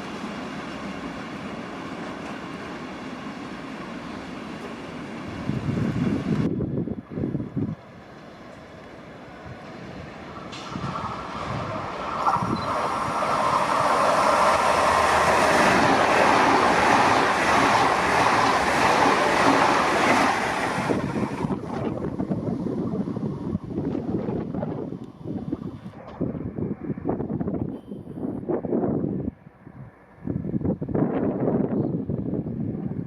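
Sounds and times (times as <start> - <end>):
train passing rumble: 0.0 - 33.0.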